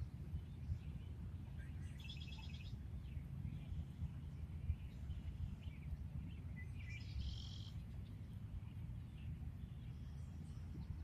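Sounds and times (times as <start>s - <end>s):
low rumble on microphone: 0.0s - 11.0s
small birds chirping: 0.0s - 11.0s.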